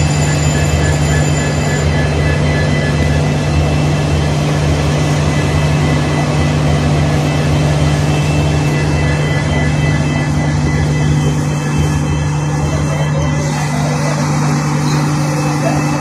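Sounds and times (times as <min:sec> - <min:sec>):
diesel locomotive idling: 0:00.0 - 0:16.0
thin high whine: 0:00.0 - 0:16.0.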